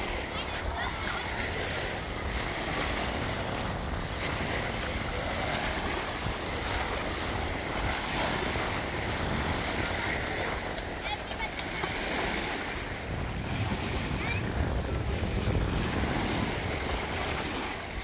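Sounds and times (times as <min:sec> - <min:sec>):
sea waves: 0:00.0 - 0:18.0
wind buffeting microphone: 0:00.0 - 0:18.0.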